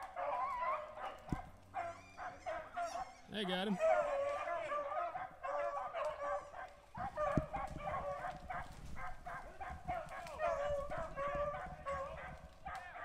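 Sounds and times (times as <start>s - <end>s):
hounds baying and yelping: 0.0s - 13.0s.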